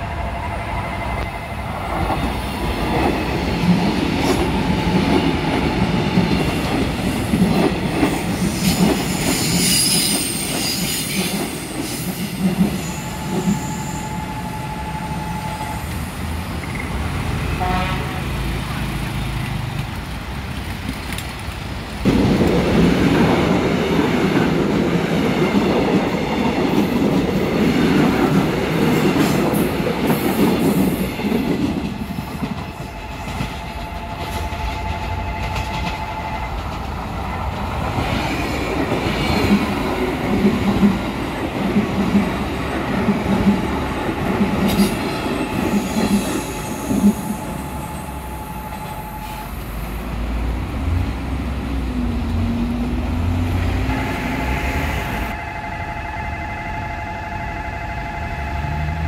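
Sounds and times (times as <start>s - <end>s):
train wheels rumbling on rails: 0.0s - 55.4s.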